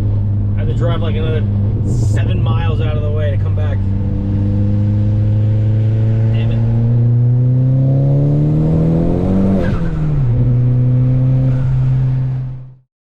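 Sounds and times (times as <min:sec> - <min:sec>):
car engine accelerating: 0:00.0 - 0:12.8.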